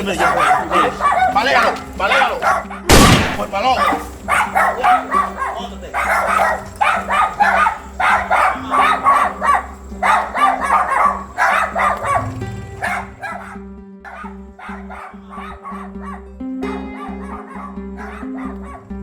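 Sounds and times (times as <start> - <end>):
dog barking: 0.0 - 19.0.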